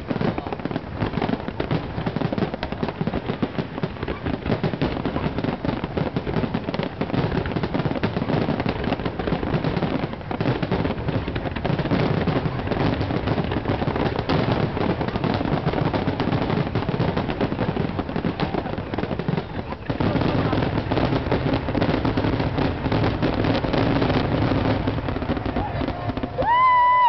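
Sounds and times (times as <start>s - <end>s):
fireworks bursting and crackling: 0.0s - 27.0s.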